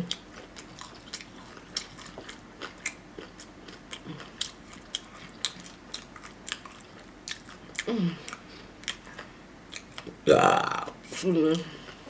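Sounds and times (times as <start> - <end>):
person chewing: 0.1 - 11.2.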